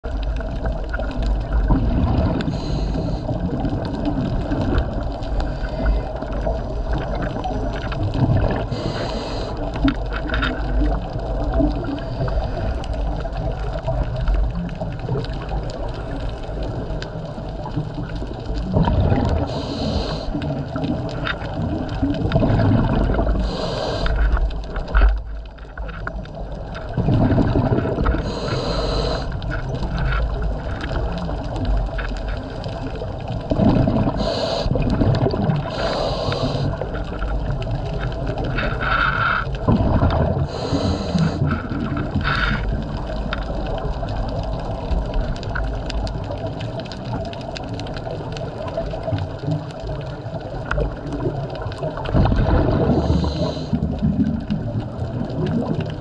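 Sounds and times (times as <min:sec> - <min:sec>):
low underwater rumble: 0:00.0 - 0:56.0
regulator bubbles rushing: 0:00.0 - 0:56.0.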